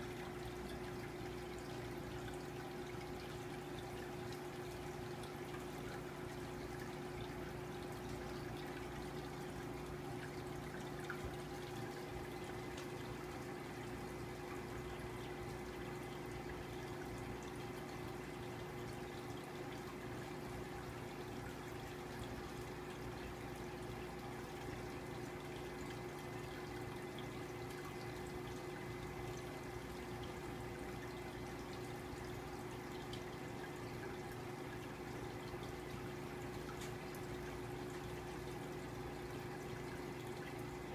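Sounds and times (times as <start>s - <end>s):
aquarium filter hum: 0.0s - 40.9s
water trickling into tank: 0.0s - 40.9s.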